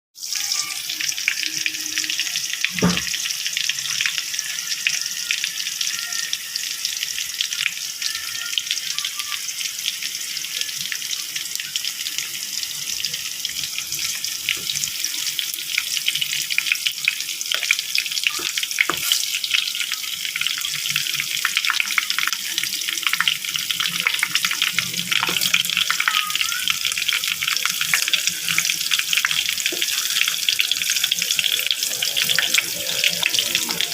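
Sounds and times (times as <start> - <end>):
ham sizzling in a pan: 0.2 - 33.9.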